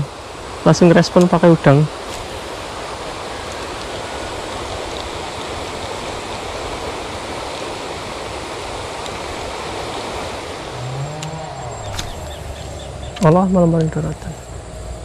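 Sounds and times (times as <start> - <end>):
river flowing over gravel: 0.1 - 12.4.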